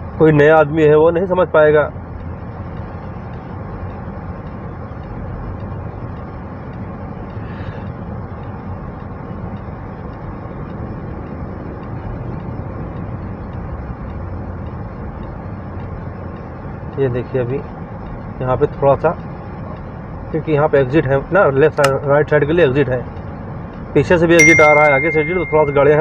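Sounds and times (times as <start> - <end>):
car road noise: 0.0 - 26.0.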